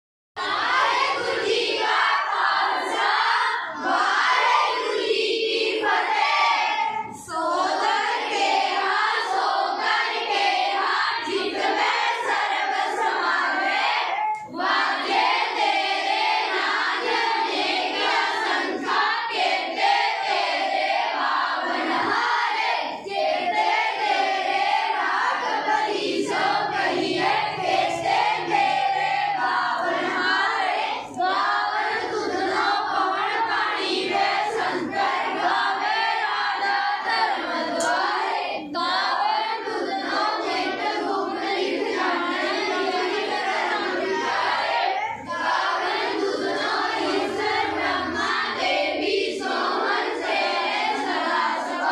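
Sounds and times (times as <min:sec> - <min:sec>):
children singing a hymn in unison: 0:00.4 - 0:51.9.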